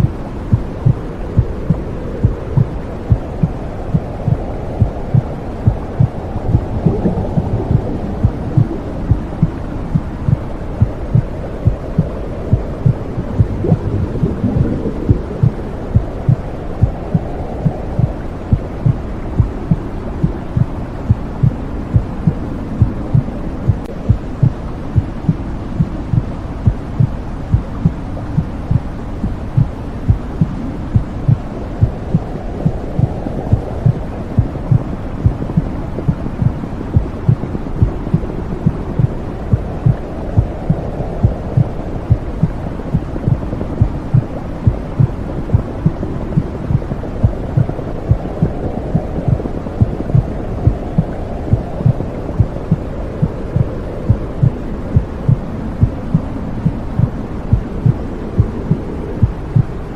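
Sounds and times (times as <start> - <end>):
muffled heartbeat: 0.0 - 59.8
low whooshing hum: 0.0 - 59.9.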